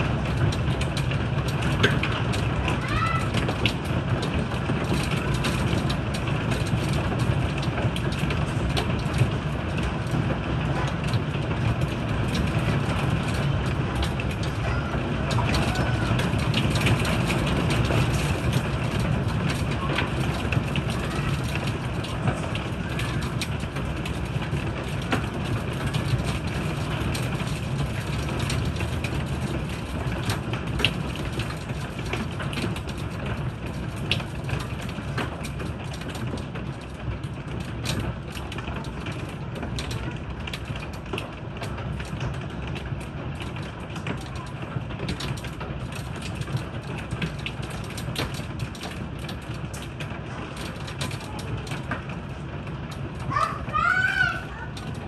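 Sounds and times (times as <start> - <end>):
hailstones striking wooden deck: 0.0 - 55.0
heavy rain hissing: 0.0 - 55.0.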